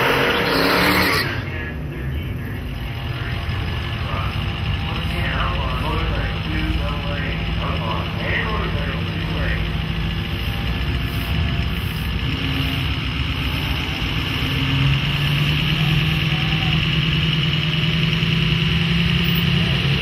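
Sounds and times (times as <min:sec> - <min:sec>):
diesel truck engine idling: 0:01.4 - 0:20.0.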